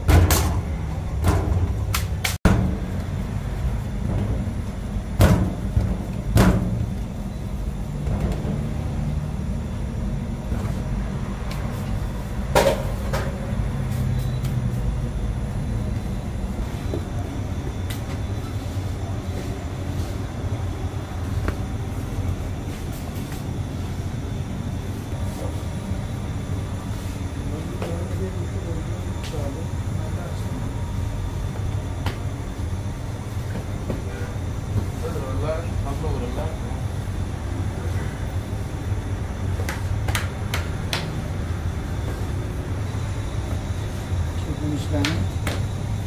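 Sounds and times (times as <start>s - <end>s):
low machinery rumble: 0.0s - 46.0s.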